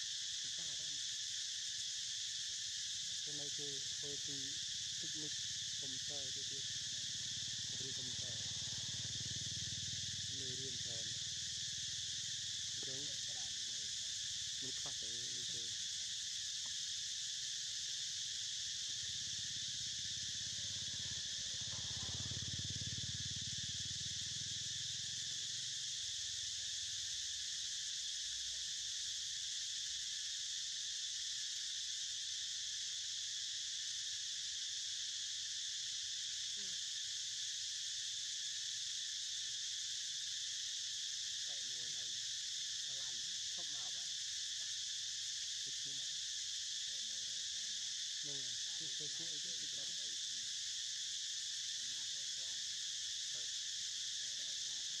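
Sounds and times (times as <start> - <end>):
insect chorus droning: 0.0 - 55.0.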